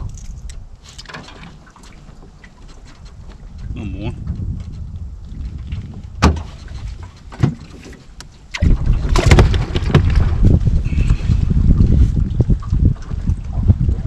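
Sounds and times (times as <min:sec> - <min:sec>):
wind rumbling on microphone: 0:00.0 - 0:14.0
water slapping against boat hull: 0:00.4 - 0:14.0.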